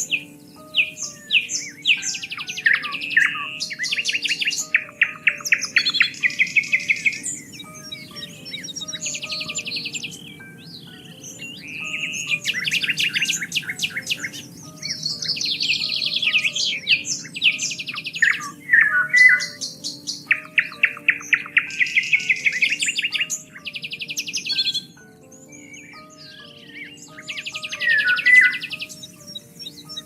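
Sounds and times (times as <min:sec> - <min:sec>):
faint background music: 0:00.0 - 0:30.0
songbirds singing: 0:00.0 - 0:30.0.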